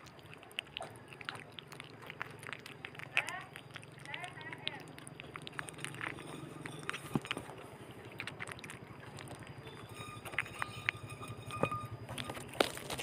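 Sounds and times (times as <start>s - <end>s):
otter chewing and lapping: 0.0s - 13.0s.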